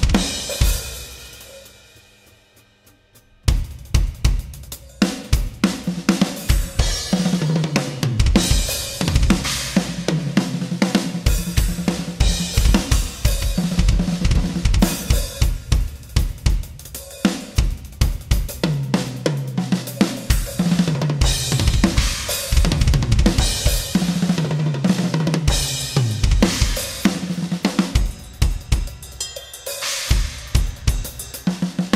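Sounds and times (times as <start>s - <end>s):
drum kit played hard: 0.0s - 31.9s.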